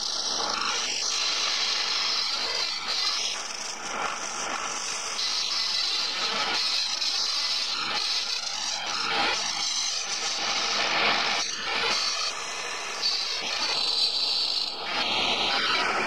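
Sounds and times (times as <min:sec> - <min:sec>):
wood lathe hissing: 0:00.0 - 0:16.0.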